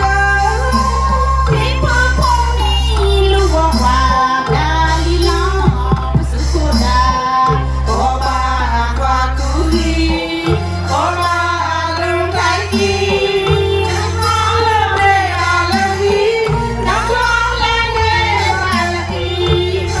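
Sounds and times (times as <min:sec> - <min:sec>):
backing music with bass line: 0:00.0 - 0:20.0
women singing into microphones: 0:00.0 - 0:20.0.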